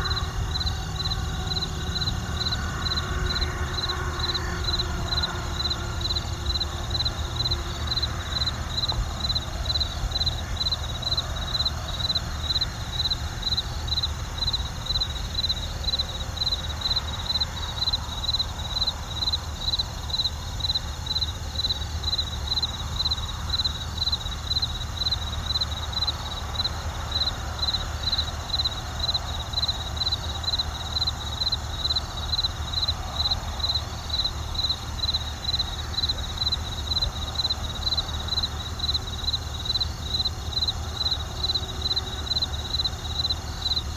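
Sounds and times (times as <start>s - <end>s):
crickets chirping: 0.0s - 43.9s
distant traffic rumble: 0.0s - 43.9s.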